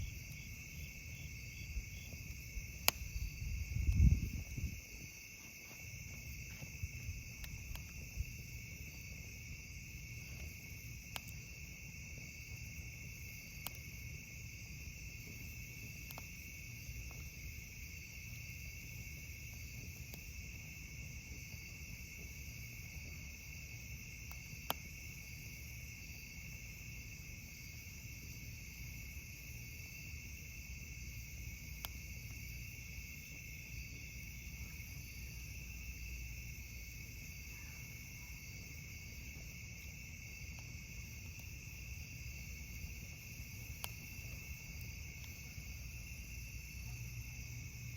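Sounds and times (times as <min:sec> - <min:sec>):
campfire pops: 0:00.0 - 0:47.9
crickets chirring: 0:00.0 - 0:47.9.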